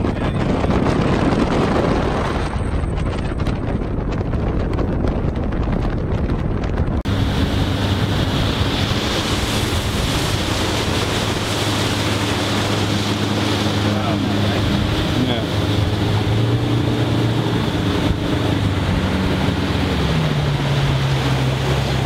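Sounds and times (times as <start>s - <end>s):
boat motor humming and whining: 0.0s - 22.0s
water rushing past boat: 0.0s - 22.0s
wind buffeting microphone: 0.0s - 22.0s.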